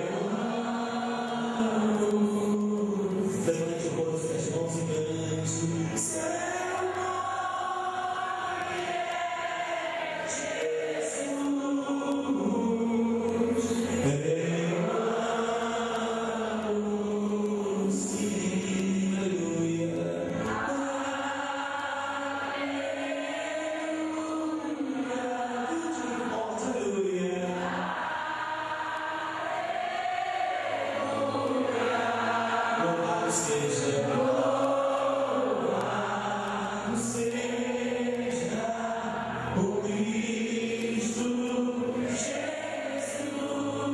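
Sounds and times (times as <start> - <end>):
group singing worship music: 0.0 - 43.9.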